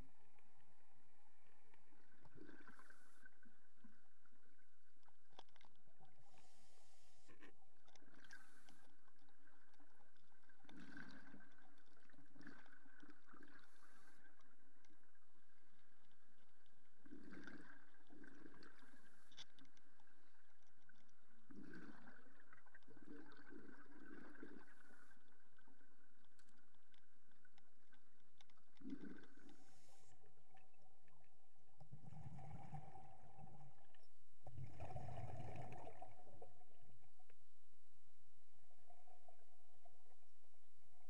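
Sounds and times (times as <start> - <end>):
faint steady whine: 0.0 - 22.9, 23.5 - 41.0
underwater gurgling: 0.0 - 41.0.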